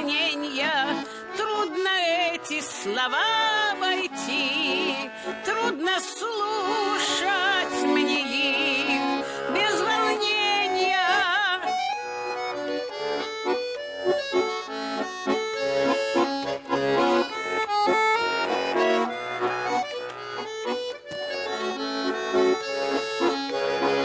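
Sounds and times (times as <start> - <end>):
accordion folk melody: 0.0 - 24.0.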